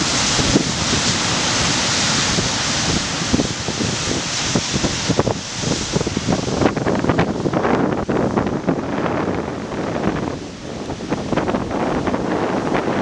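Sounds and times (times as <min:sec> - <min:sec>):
surf breaking on beach: 0:00.0 - 0:13.0
wind on microphone: 0:00.0 - 0:13.0.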